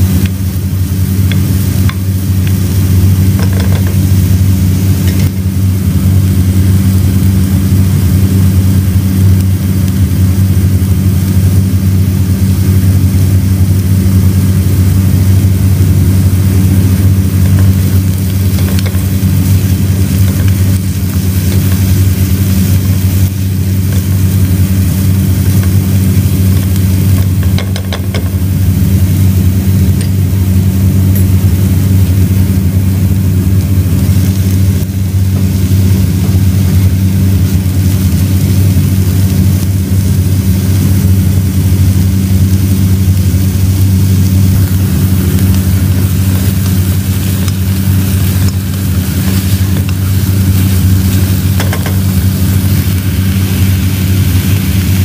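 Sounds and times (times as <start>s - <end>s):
loud low hum: 0.0s - 55.0s
vegetables frying: 0.0s - 55.0s.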